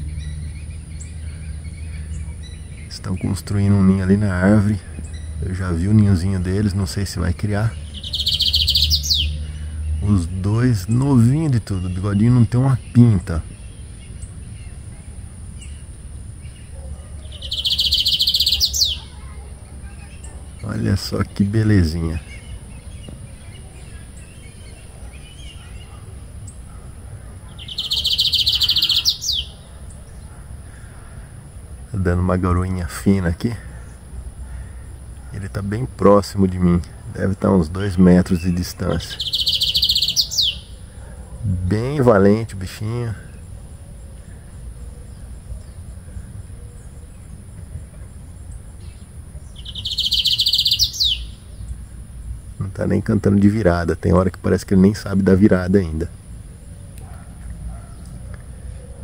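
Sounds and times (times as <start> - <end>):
bird singing a rapid trill: 0.0 - 58.2.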